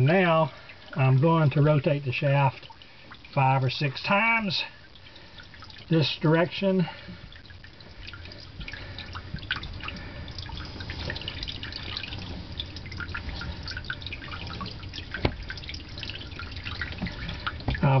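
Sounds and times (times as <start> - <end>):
low steady hum: 0.0 - 18.0
water dripping and trickling: 0.0 - 18.0.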